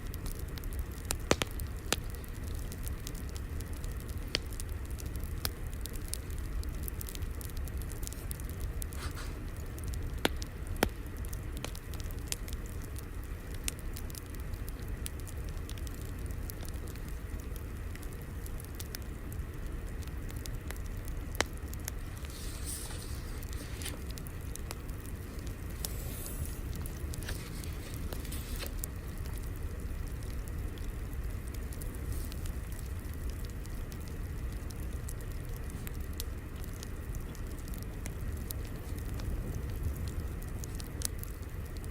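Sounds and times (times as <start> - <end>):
crackling wood fire: 0.0 - 41.9.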